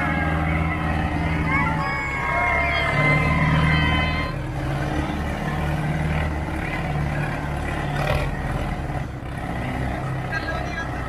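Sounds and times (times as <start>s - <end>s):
diesel tractor engines droning: 0.0s - 11.0s.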